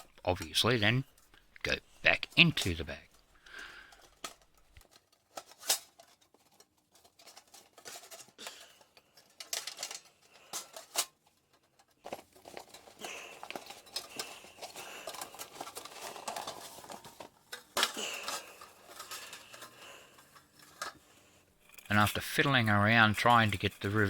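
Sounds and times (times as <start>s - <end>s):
scraping and rustling: 0.0s - 24.0s.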